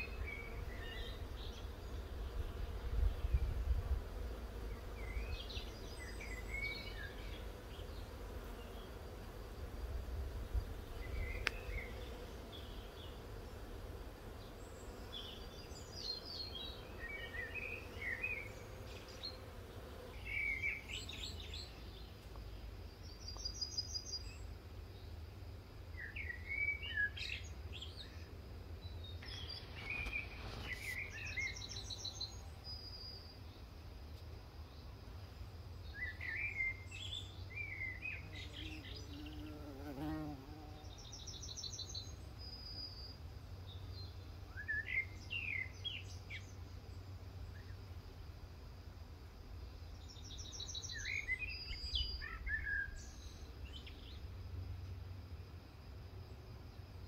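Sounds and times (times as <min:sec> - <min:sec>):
songbirds singing: 0:00.0 - 0:09.2, 0:10.3 - 0:13.6, 0:14.2 - 0:47.9, 0:49.5 - 0:55.1.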